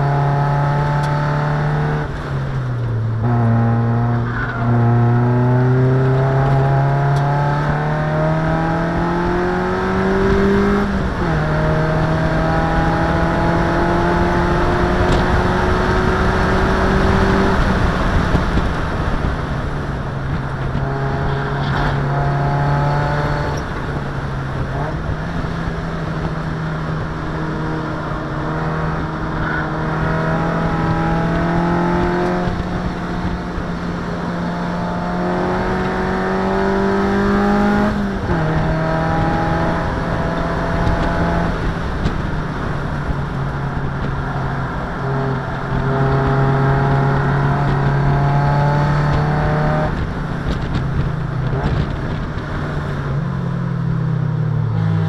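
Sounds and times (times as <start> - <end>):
race car engine revving: 0.0 - 53.2.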